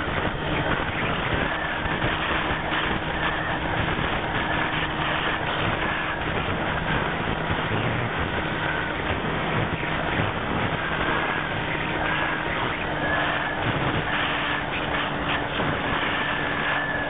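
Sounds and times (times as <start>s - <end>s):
faint high whine: 0.0s - 17.0s
model aircraft motor and propeller: 0.0s - 17.0s
wind rush: 0.0s - 17.0s.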